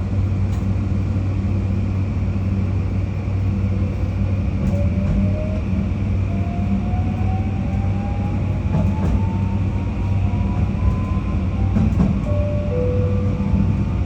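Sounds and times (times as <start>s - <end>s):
train running rumble and hum: 0.0s - 14.0s.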